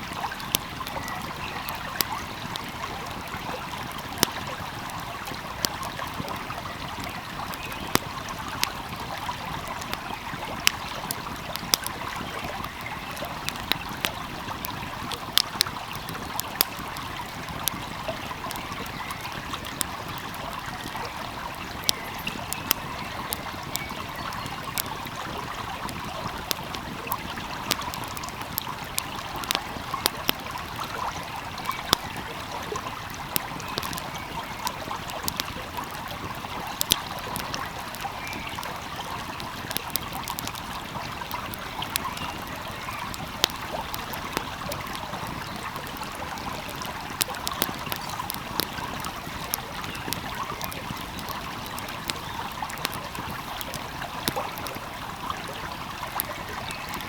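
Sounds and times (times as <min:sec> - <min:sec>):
small stream flowing: 0:00.0 - 0:57.0
wood fire crackling: 0:00.0 - 0:57.0.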